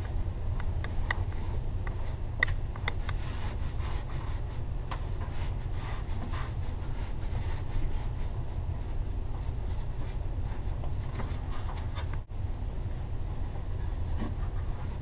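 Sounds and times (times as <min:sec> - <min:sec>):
insulation rustling: 0:00.0 - 0:15.0
steady low rumble: 0:00.0 - 0:15.0.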